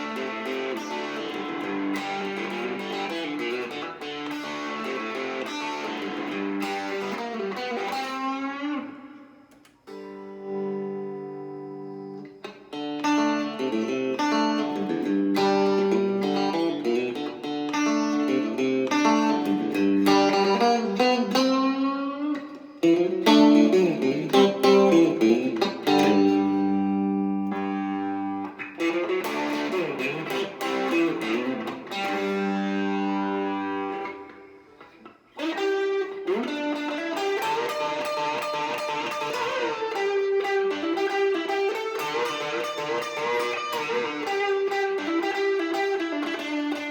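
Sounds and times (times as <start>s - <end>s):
electric guitar rock riffs: 0.0s - 46.9s.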